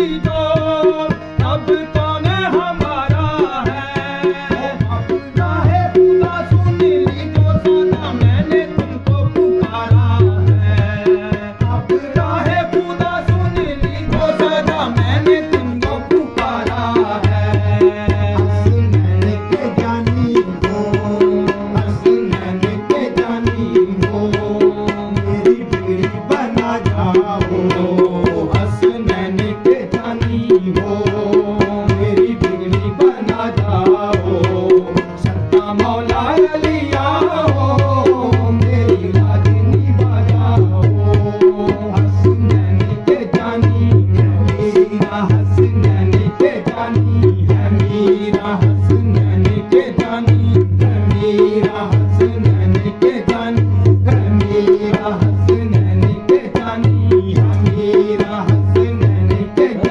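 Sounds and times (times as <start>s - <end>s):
harmonium: 0.0s - 59.9s
men singing devotional song: 0.0s - 59.9s
tabla drumming: 0.0s - 59.9s.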